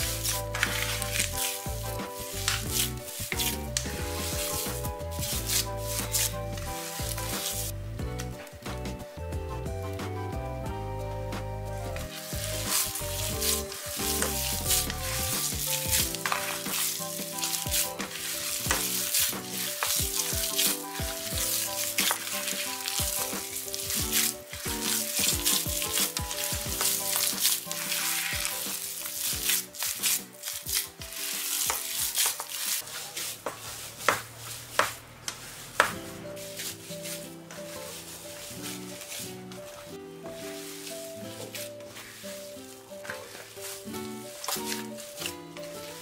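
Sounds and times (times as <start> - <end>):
hands squishing wet paste: 0.0 - 9.0, 11.1 - 46.0
background music: 0.0 - 33.2, 35.7 - 46.0.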